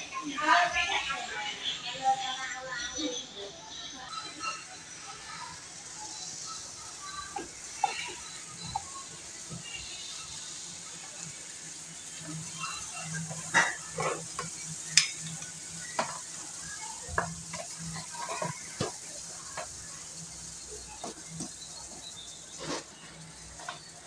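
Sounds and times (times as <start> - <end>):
pot boiling and bubbling: 2.9 - 24.0.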